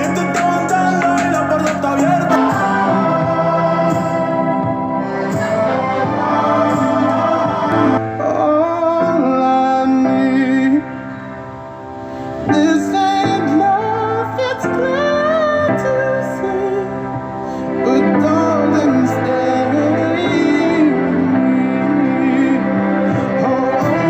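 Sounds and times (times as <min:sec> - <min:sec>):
keyboard chords: 0:00.0 - 0:24.0.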